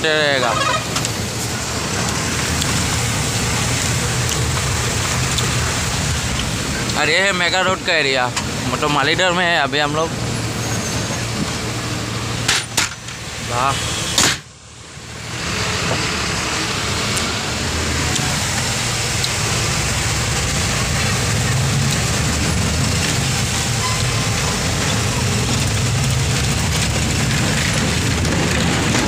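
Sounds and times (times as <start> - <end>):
road noise hiss: 0.0 - 29.0
truck engine running: 0.0 - 29.0.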